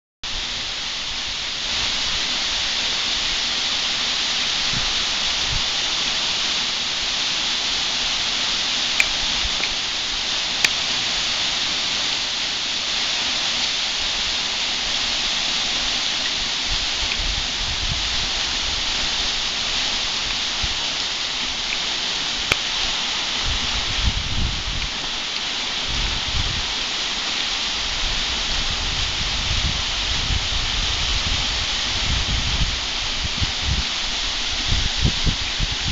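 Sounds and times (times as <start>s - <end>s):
small waterfall splashing: 0.2s - 35.9s.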